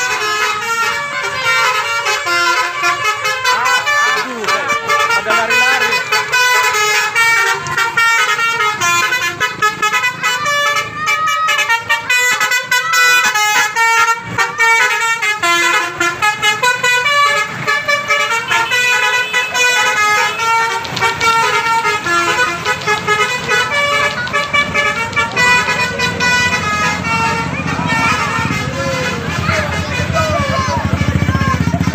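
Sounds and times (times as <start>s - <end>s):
multi-tone bus horn tune: 0.0s - 31.9s.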